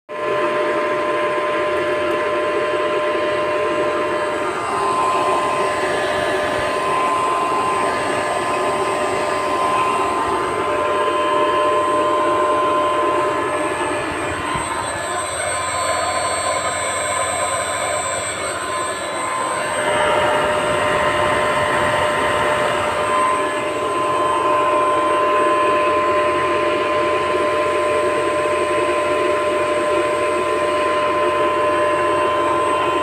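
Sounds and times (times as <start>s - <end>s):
electric motor and fan running: 0.1s - 33.0s
steady whine: 0.1s - 33.0s.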